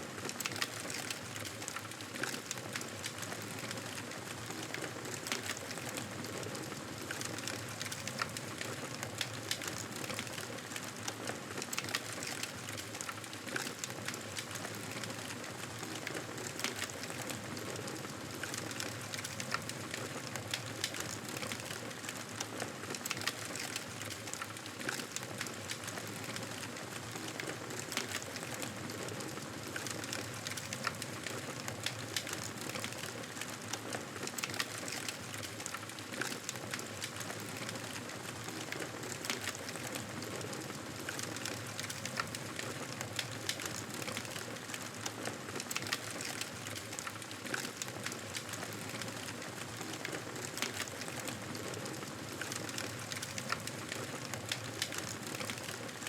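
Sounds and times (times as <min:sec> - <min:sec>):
wood fire crackling: 0:00.1 - 0:56.0.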